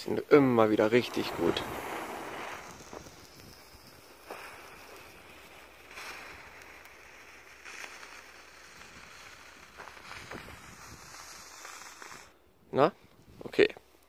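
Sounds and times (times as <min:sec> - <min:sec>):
sparkler fizzing hiss: 0:00.0 - 0:12.4.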